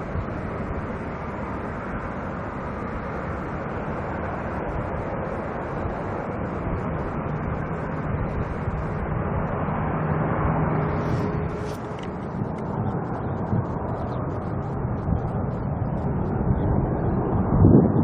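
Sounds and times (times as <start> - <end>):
jet engine roar: 0.0 - 18.0
low hum: 0.0 - 18.0.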